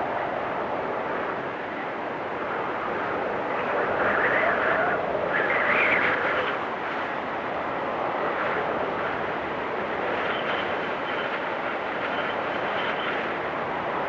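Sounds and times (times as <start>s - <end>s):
blizzard wind whistling: 0.0s - 14.0s.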